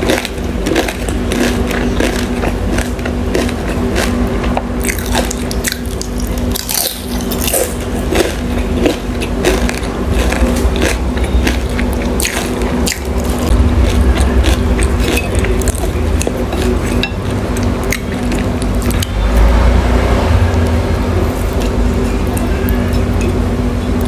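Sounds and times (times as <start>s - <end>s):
wet chewing of food: 0.0s - 19.5s.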